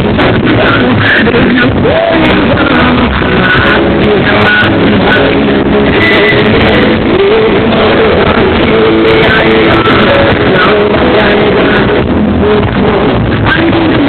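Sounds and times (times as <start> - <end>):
loud music with guitar: 0.0 - 14.0.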